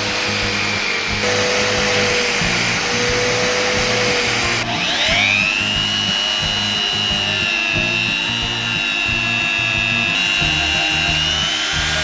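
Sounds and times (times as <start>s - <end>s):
background music with beat: 0.0s - 12.0s
rotary tool whining: 0.0s - 12.0s.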